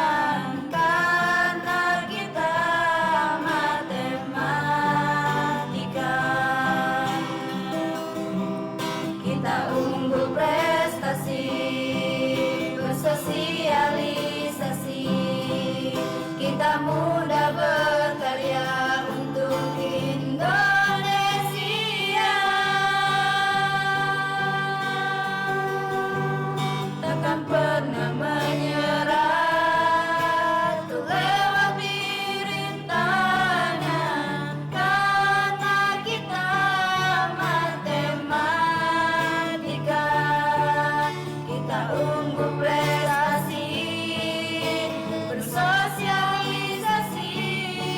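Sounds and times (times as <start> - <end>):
voices singing held notes: 0.0 - 47.9.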